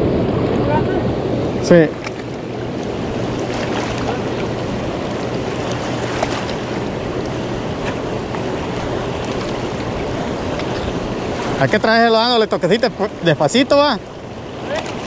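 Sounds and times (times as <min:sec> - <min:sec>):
fast-flowing river water: 0:00.0 - 0:15.0
wind buffeting microphone: 0:00.0 - 0:15.0.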